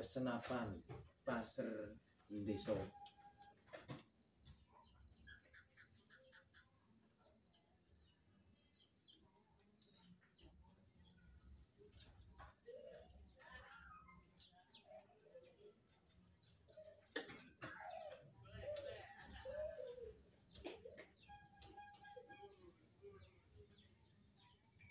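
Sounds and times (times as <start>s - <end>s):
faint bird chirps: 0.0s - 24.9s
high-pitched insect drone: 0.0s - 24.9s.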